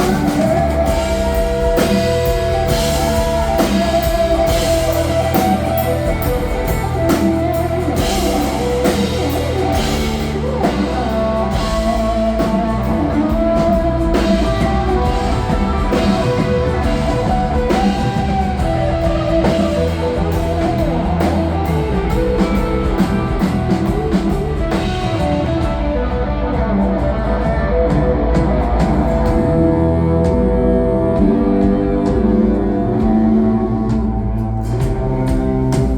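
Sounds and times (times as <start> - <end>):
drum kit beat: 0.0 - 35.9
rock band playing: 0.0 - 35.9.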